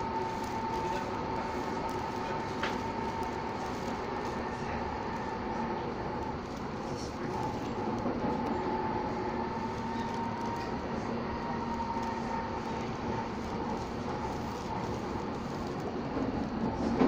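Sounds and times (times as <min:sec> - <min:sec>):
thin electric whine: 0:00.0 - 0:16.5
train rolling rumble: 0:00.0 - 0:17.0.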